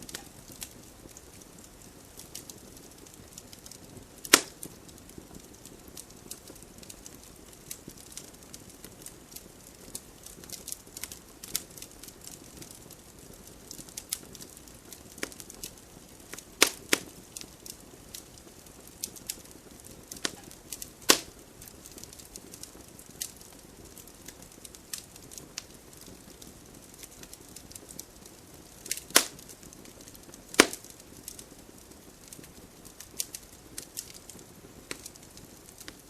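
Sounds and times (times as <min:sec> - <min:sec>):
campfire crackles and pops: 0:00.0 - 0:36.0
campfire hiss: 0:00.0 - 0:36.0.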